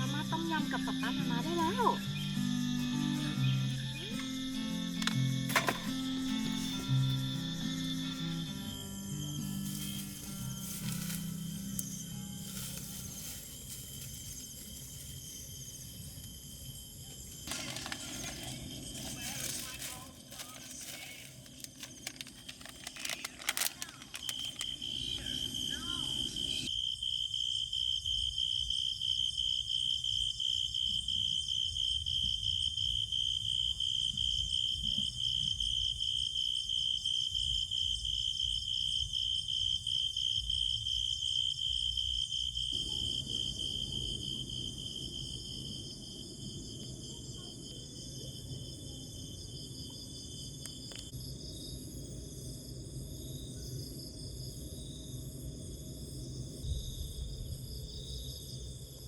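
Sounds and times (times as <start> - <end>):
crickets and insects chirring: 0.0 - 59.0
high pulsing insect trill: 0.0 - 59.0.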